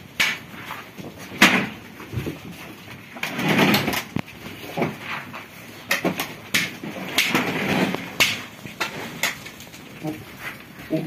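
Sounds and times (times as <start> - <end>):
goats knocking and scuffing: 0.0 - 11.0.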